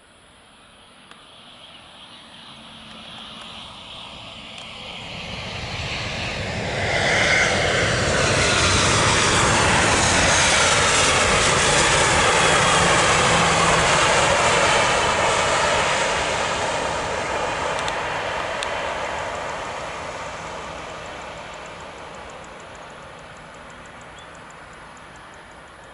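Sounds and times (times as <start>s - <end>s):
jet engines at takeoff: 0.0s - 25.9s.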